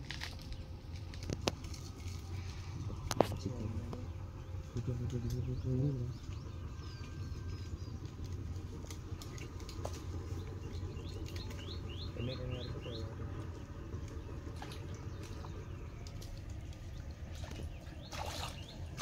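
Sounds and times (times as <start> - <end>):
steady low rumble: 0.0 - 19.0
bird chirping: 2.4 - 19.0.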